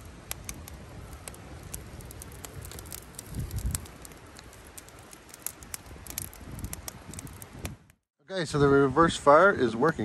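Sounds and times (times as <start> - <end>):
campfire crackling and popping: 0.0 - 8.1
wind rumble on microphone: 0.0 - 9.7.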